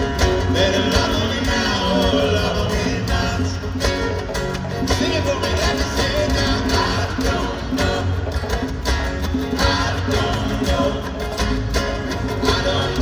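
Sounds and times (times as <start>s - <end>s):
live country band playing: 0.0s - 13.0s.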